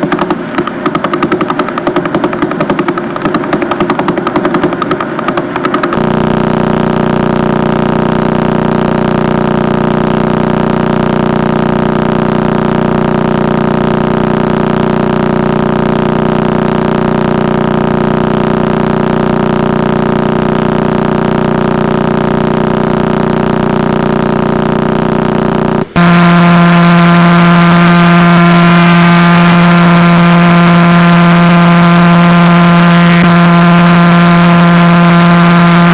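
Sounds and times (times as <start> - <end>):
louder buzz: 0.0 - 35.9
steady buzzing hum: 0.0 - 35.9.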